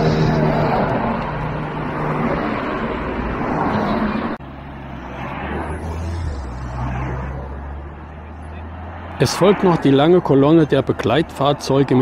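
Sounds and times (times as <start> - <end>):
cars and motorcycle driving past: 0.0 - 12.0.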